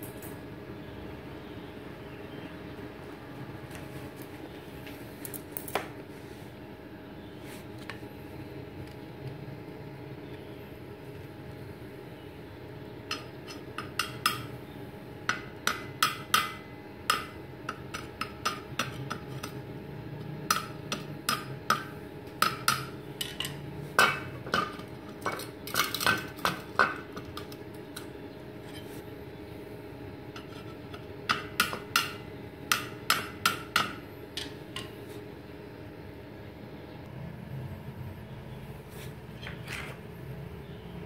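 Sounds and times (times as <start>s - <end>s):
faint welder hum: 0.0s - 41.0s.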